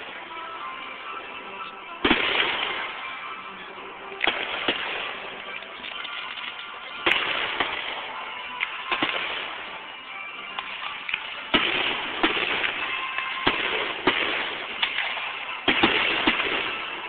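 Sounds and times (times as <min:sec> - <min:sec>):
fireworks bursting with sharp bangs: 0:00.0 - 0:17.0
music playing: 0:00.0 - 0:17.0.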